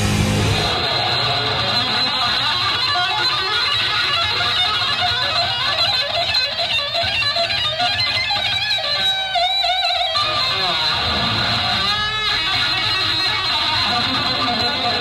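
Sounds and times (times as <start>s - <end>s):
electric guitar tapping solo: 0.0s - 15.0s.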